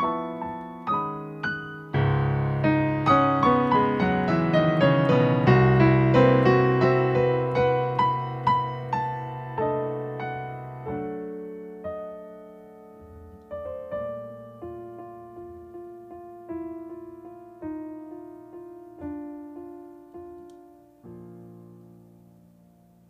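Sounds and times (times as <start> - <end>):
jazz piano chords: 0.0 - 23.0.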